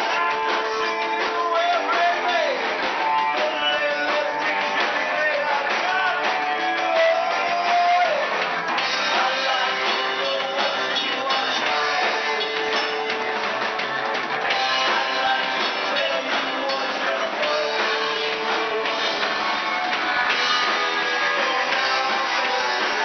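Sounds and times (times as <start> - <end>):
person singing: 0.0 - 13.4, 14.5 - 23.0
drum kit: 0.0 - 23.0
electric bass: 0.0 - 23.0
electric guitars: 0.0 - 23.0.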